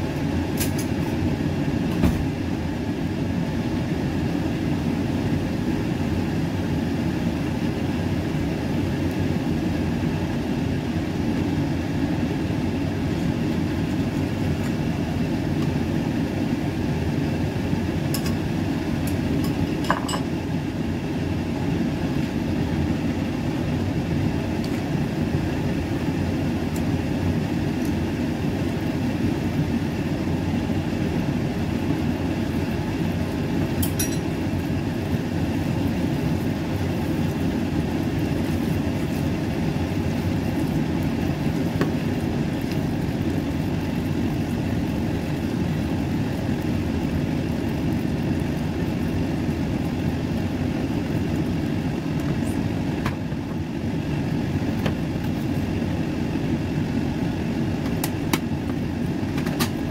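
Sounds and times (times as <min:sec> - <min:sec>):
steady mechanical drone: 0:00.0 - 0:59.9.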